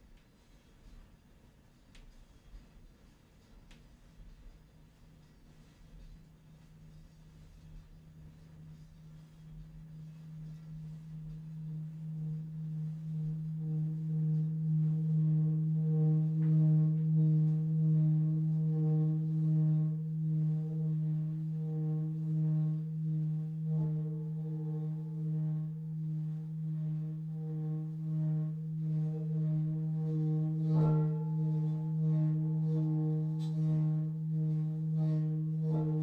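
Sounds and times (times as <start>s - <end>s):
singing bowl humming: 5.6s - 36.0s.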